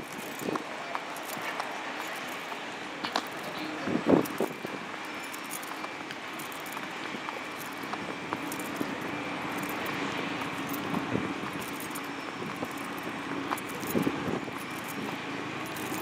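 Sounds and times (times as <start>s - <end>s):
distant engine drone: 0.0s - 16.0s.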